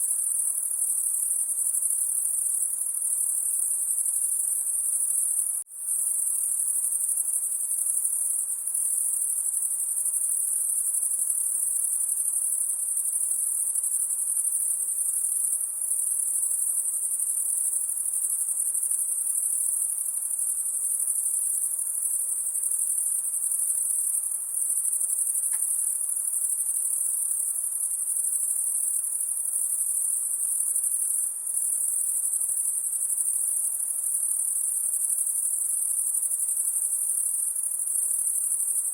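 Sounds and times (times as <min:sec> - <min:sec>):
night insects chorus: 0:00.0 - 0:38.9.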